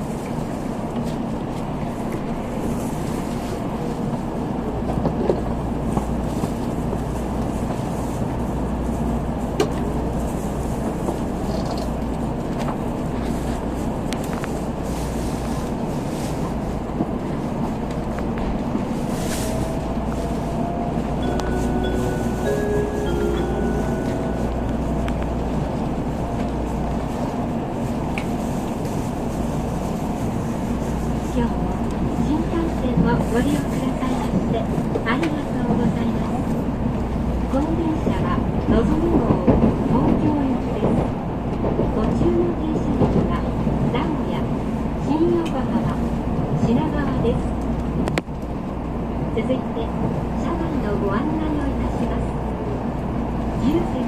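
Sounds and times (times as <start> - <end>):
train rumbling and rolling: 0.0 - 54.0.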